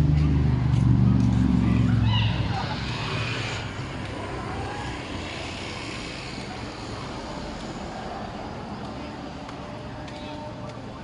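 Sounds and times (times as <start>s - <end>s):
passing vehicle engine: 0.0s - 11.0s
street noise hum: 0.0s - 11.0s.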